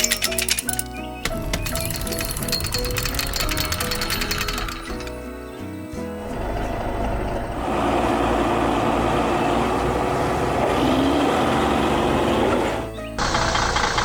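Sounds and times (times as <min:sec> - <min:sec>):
truck engine running: 0:01.3 - 0:14.0.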